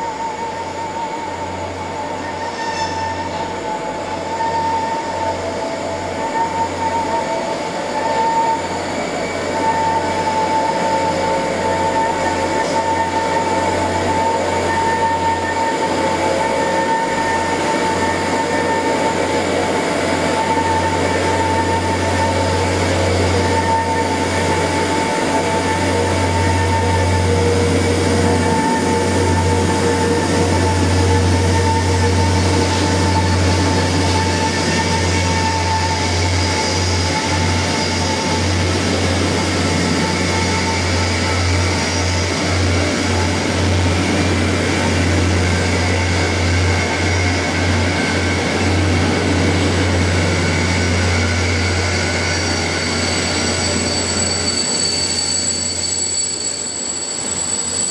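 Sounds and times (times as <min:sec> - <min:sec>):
rail grinder grinding: 0:08.0 - 0:56.3.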